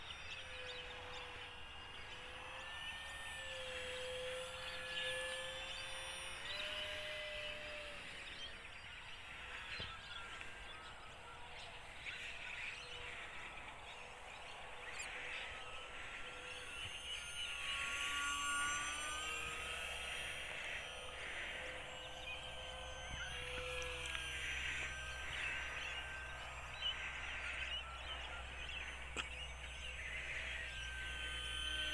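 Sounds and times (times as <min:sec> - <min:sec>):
model plane motor whining: 0:00.0 - 0:31.9
outdoor background noise: 0:00.0 - 0:31.9.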